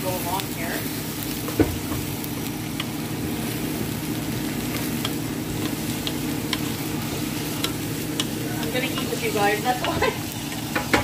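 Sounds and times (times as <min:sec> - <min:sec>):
steady low hum: 0:00.0 - 0:11.0
vegetables sizzling in a pot: 0:00.0 - 0:11.0.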